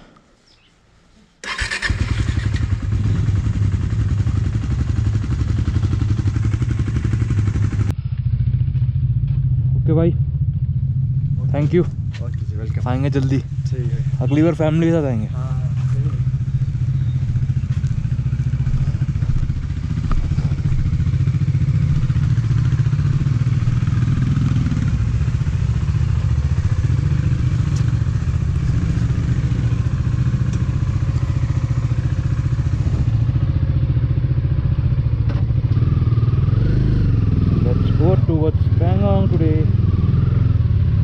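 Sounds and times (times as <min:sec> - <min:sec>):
motorcycle engine idling: 0:01.5 - 0:41.0.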